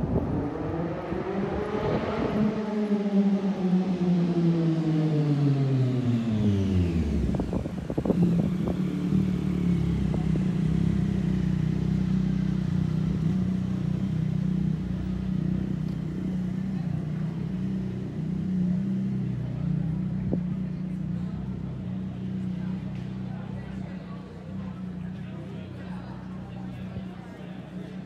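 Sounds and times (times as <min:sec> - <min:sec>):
low engine hum: 0:00.0 - 0:28.0
vehicle engine passing by: 0:00.0 - 0:28.0.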